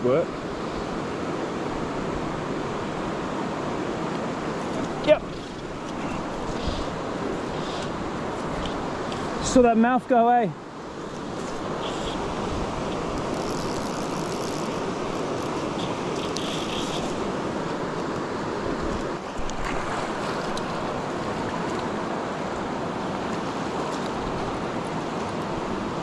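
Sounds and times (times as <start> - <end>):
river rushing over rapids: 0.3 - 26.0.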